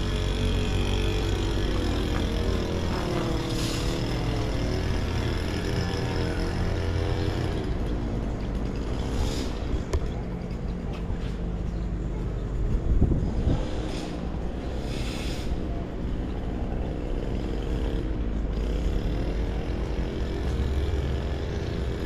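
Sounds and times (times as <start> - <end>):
low traffic rumble: 0.0 - 22.0
vehicle engine running close by: 0.0 - 22.0.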